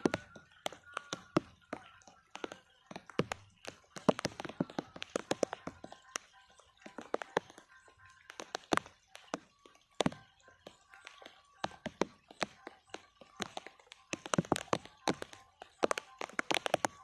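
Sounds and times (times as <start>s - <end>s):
faint voices: 0.0s - 17.0s
sharp taps and knocks: 0.0s - 17.0s.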